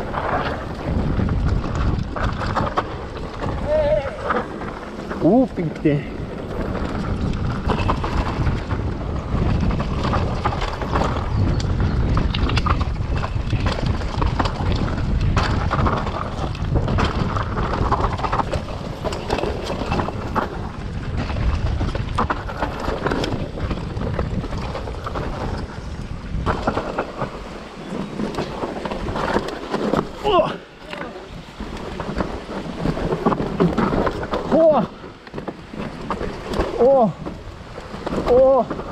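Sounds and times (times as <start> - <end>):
bike rattling clicks and knocks: 0.0 - 38.9
tyres rolling over stones: 0.0 - 38.9
wind rumbling on microphone: 0.0 - 38.9.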